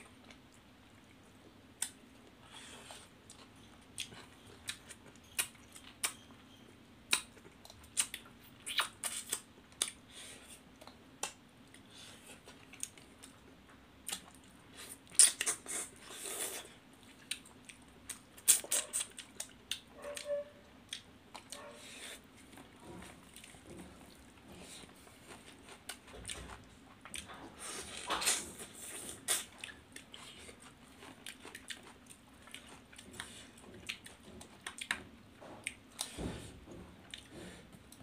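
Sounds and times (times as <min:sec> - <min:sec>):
people eating with mouth smacks: 0:01.8 - 0:06.2, 0:07.1 - 0:13.4, 0:14.0 - 0:38.0.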